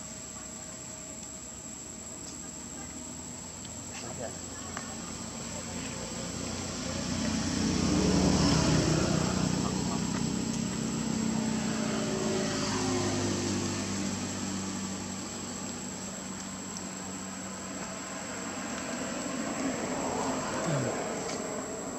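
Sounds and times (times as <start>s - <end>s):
engine passing by: 2.4s - 21.9s.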